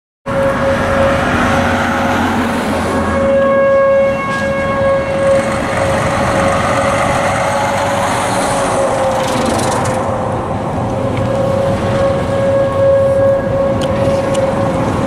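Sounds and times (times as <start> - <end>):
loud rush of noise: 0.3 - 3.5, 4.2 - 15.0
warning siren wailing: 0.3 - 15.0.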